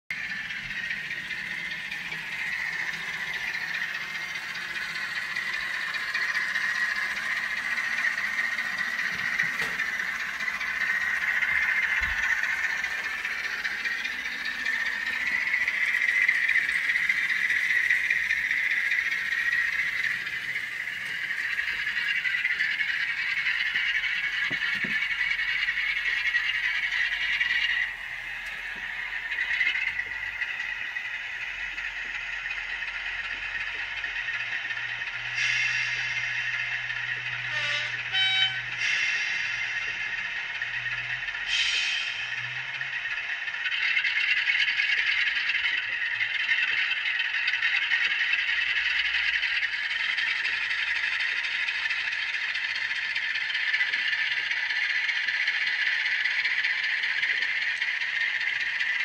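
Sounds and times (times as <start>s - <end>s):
model train running on track: 0.1s - 59.0s
thin rattly diesel engine sound: 0.1s - 59.0s.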